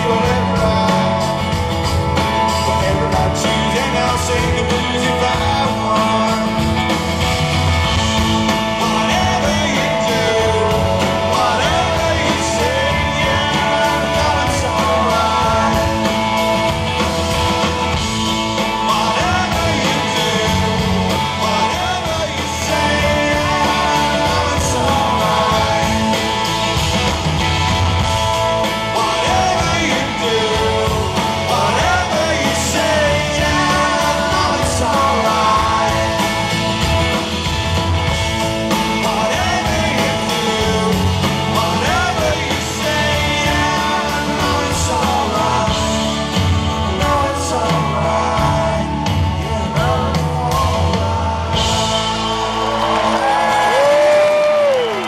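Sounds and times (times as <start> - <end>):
live rock band playing: 0.0 - 55.0
person singing lead vocal: 0.0 - 55.0.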